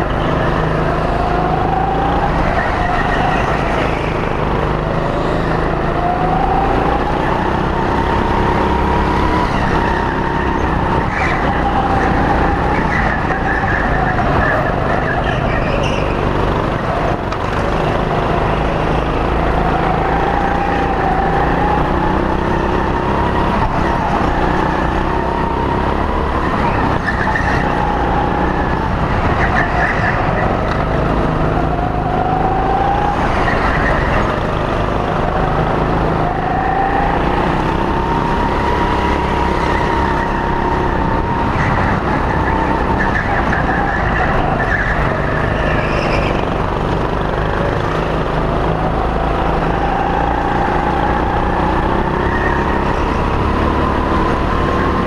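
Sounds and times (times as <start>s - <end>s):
go-kart motor revving: 0.0s - 55.0s
kart running rumble: 0.0s - 55.0s.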